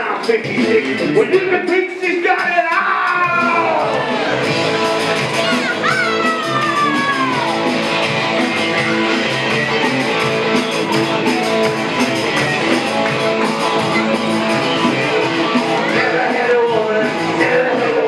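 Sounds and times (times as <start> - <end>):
rock band playing: 0.0 - 18.0
guitar strumming: 3.2 - 18.0.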